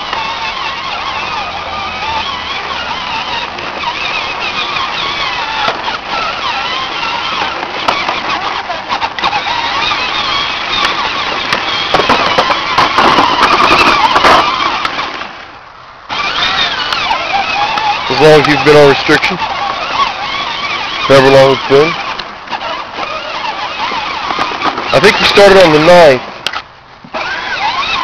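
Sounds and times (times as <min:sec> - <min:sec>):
toy tractor electric motor whining: 0:00.0 - 0:15.4, 0:16.1 - 0:28.0.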